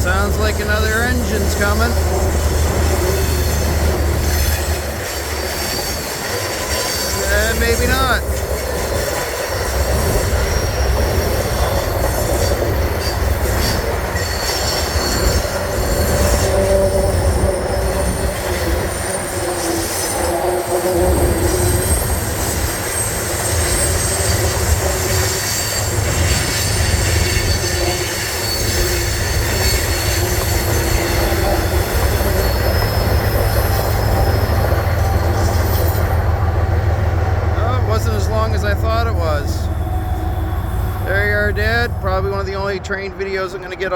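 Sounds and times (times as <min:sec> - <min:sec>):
train cars rumbling past: 0:00.0 - 0:43.9
high-pitched wheel squeals: 0:00.1 - 0:41.8.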